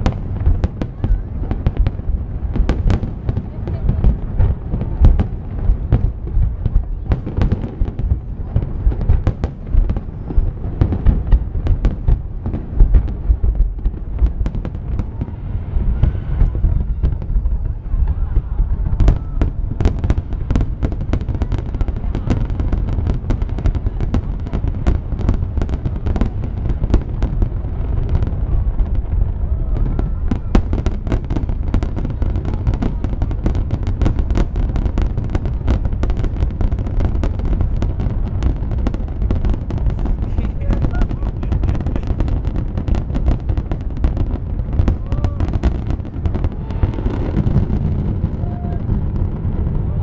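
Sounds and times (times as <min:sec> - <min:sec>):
low rumble: 0:00.0 - 0:50.0.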